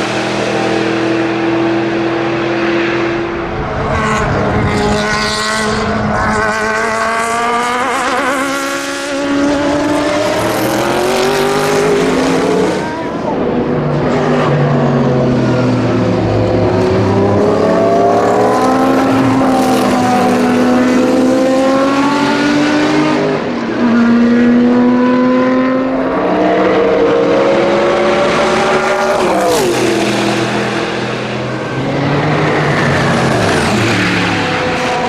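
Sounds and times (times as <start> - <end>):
race car engines at full throttle: 0.0 - 35.0
race car passing close: 0.0 - 35.0.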